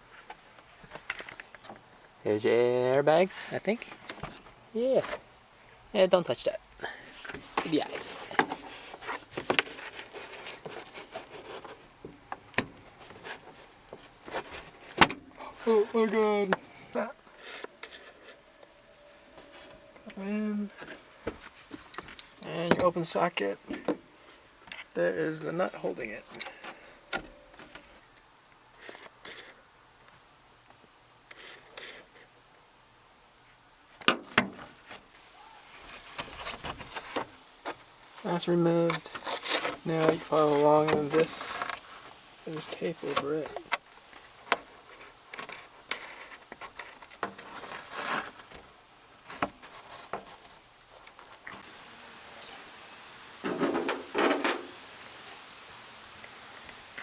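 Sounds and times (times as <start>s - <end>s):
rustling: 3.0s - 28.1s, 34.5s - 57.0s.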